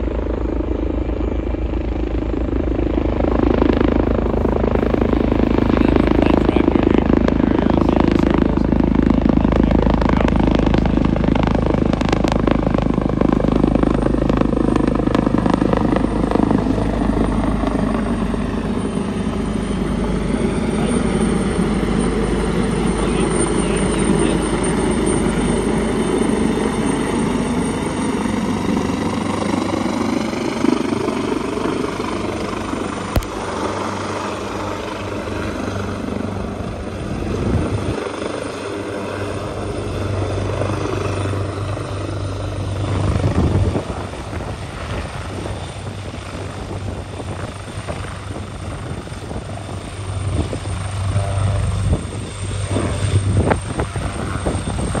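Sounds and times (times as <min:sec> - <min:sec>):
helicopter rotor and turbine noise: 0:00.0 - 0:55.0
steady low hum: 0:00.0 - 0:55.0.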